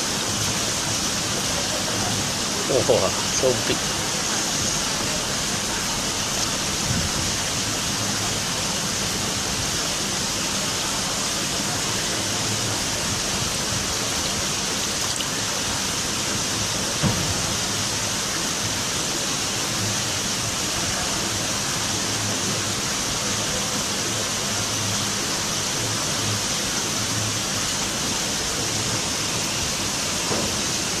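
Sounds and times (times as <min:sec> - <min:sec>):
steady rushing hiss: 0:00.0 - 0:31.0.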